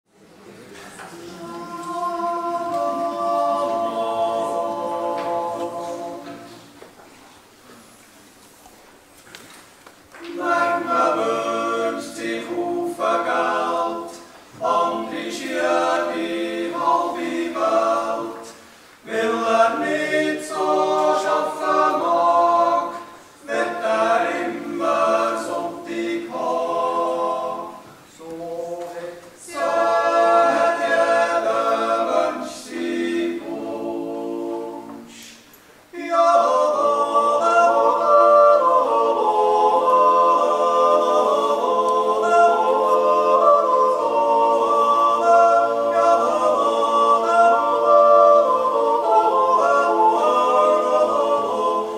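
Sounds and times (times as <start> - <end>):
male choir yodelling in harmony: 1.4 - 6.6, 10.3 - 35.2, 35.9 - 51.9.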